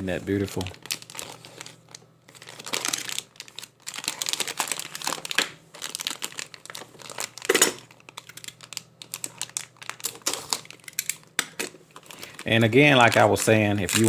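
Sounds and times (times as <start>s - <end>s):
plastic packaging crinkling: 0.5s - 14.0s.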